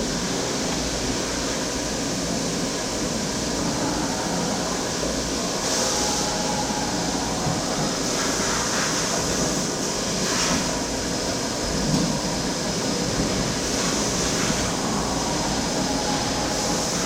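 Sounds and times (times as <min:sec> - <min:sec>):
machine running with hiss: 0:00.0 - 0:17.0.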